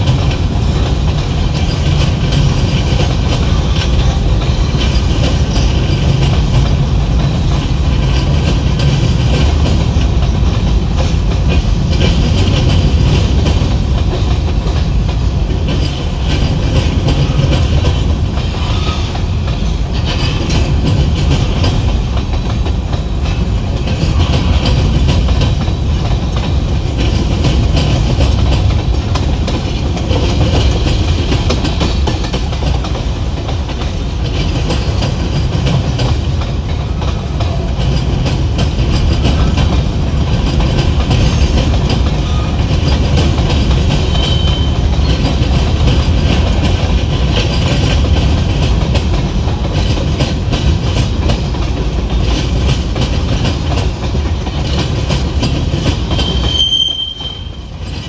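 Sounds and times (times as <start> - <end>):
clicking train wheels: 0.0 - 58.0
train wheels on rails: 0.0 - 58.0.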